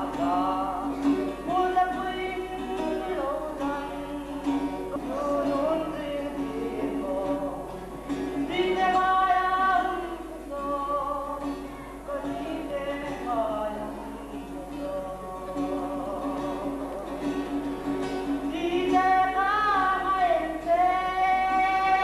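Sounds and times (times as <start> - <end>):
man singing into microphone: 0.0 - 7.8, 8.5 - 17.5, 18.5 - 22.0
acoustic guitar: 0.0 - 22.0.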